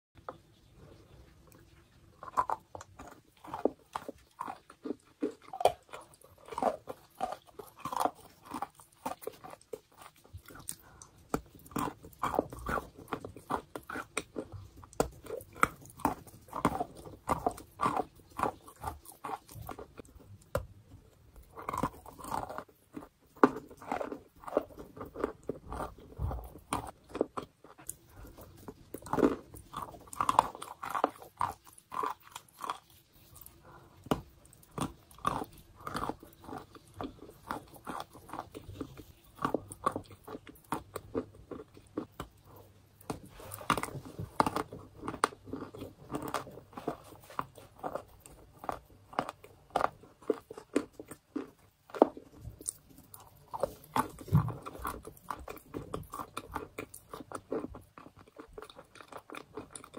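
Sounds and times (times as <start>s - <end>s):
person chewing chalk crunches: 0.6s - 59.9s.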